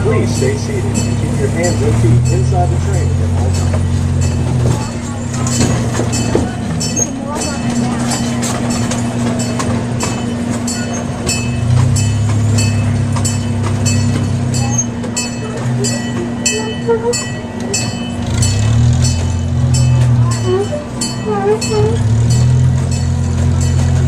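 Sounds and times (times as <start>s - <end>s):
ride train rumbling: 0.0s - 24.0s
train wheels clicking over rails: 0.0s - 24.0s.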